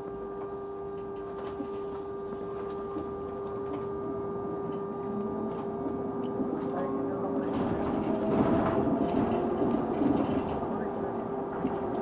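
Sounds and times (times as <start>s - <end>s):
bus whine: 0.0s - 12.0s.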